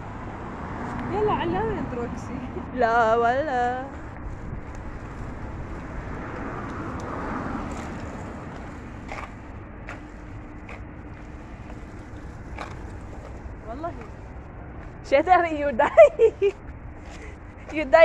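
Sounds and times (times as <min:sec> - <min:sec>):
car passing: 0:00.0 - 0:17.6
wind rumble: 0:00.0 - 0:18.0.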